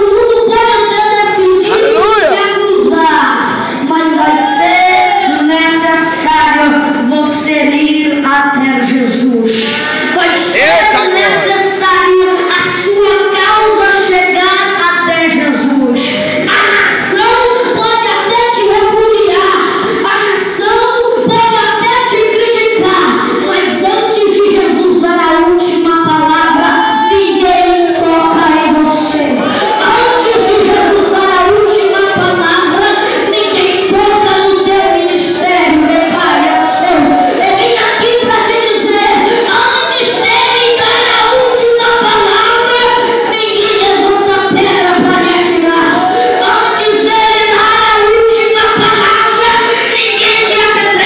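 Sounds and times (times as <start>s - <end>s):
boy singing through loudspeaker: 0.0s - 51.0s.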